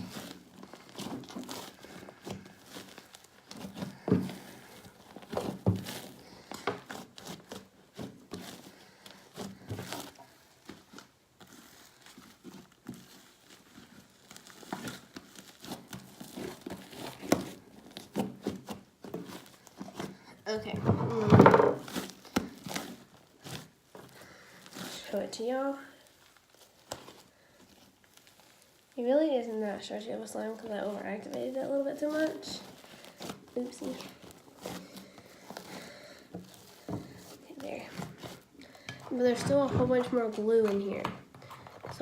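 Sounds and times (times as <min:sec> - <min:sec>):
slime squishing and tearing: 0:00.0 - 0:41.2.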